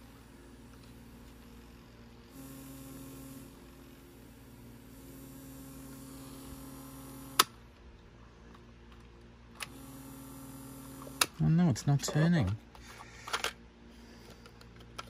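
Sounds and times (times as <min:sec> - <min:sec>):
cassette player low hum: 0:00.0 - 0:15.0.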